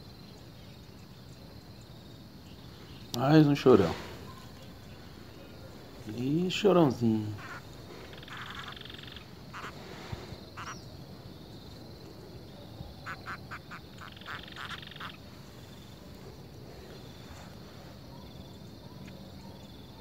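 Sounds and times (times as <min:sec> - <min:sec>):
frog croaking: 0:00.0 - 0:20.0.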